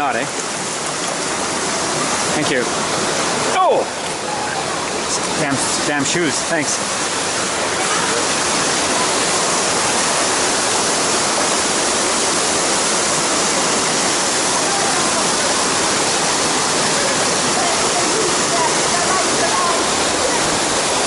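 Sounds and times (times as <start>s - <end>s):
cascading water rushing: 0.0s - 21.0s.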